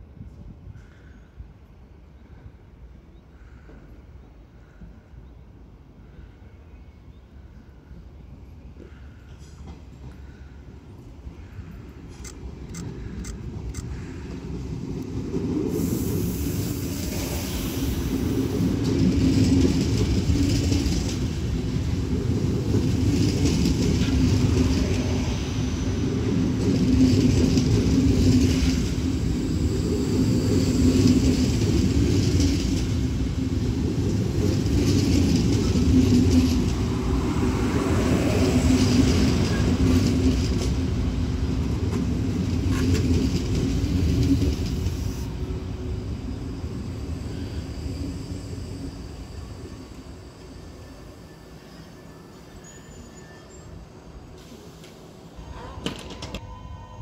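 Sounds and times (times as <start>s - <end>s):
train wheels rumbling on rails: 7.4s - 57.0s.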